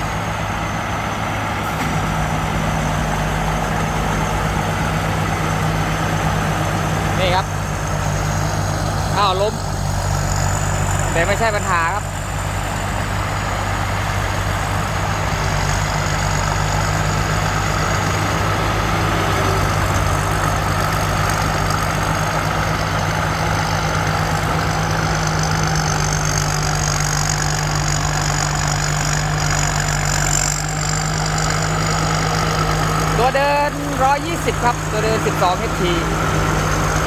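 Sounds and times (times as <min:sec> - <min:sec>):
combine harvester engine running: 0:00.0 - 0:37.0.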